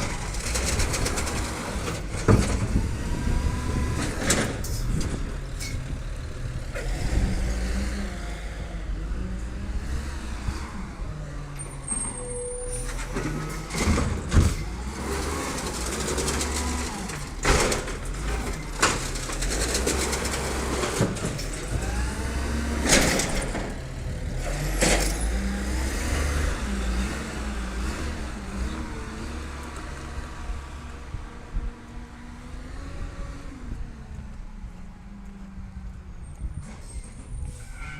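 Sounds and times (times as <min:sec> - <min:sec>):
garbage truck engine drone: 0:00.0 - 0:37.8.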